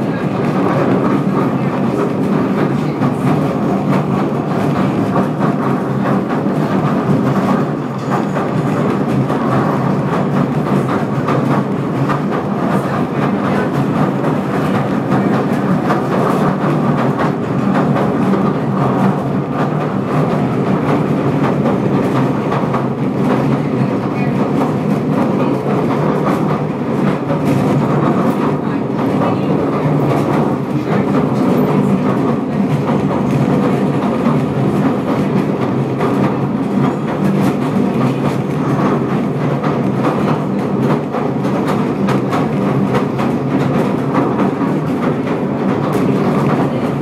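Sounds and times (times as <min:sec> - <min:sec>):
train rumbling on track: 0:00.0 - 0:47.0
wheels clicking on rails: 0:00.0 - 0:47.0.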